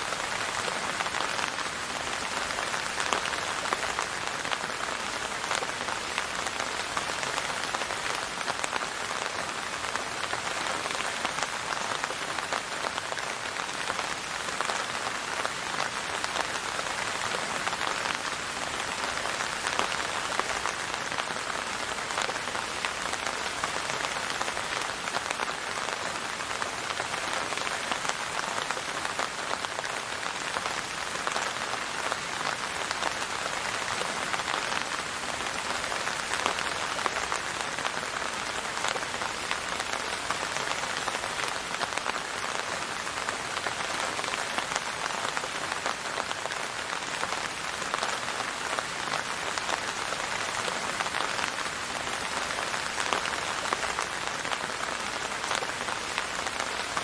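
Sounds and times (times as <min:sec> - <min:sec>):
rain pattering on surface: 0:00.0 - 0:57.0.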